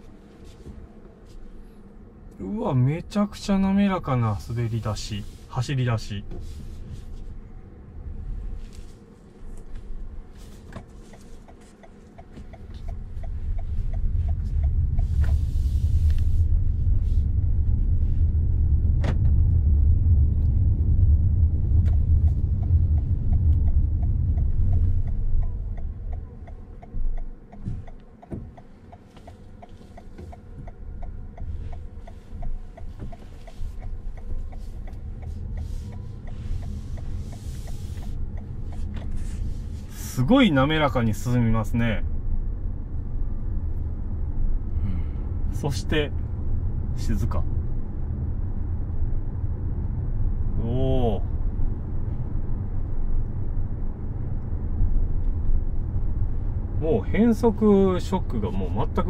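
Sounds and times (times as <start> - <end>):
car interior engine rumble: 0.0 - 59.0.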